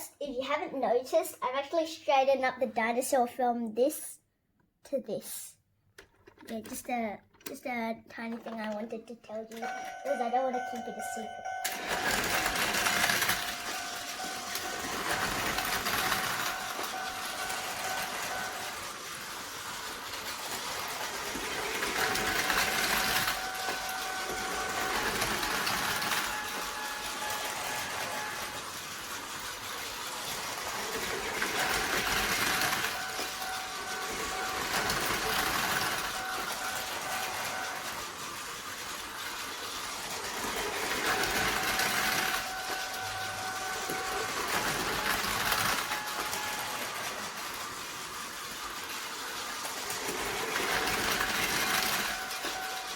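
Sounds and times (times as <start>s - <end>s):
plastic wheels rattling: 6.0s - 52.9s
toy train motor whine: 9.3s - 52.9s.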